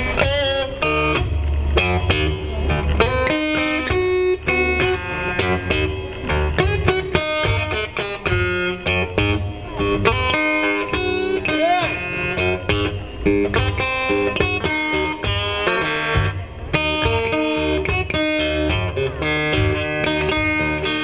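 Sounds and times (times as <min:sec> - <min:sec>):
blues guitar picked notes: 0:00.0 - 0:21.0.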